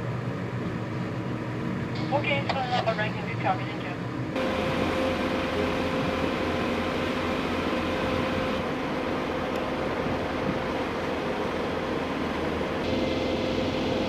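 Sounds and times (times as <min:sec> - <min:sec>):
boat engine humming: 0:00.0 - 0:14.0
steady rushing noise: 0:00.0 - 0:14.0.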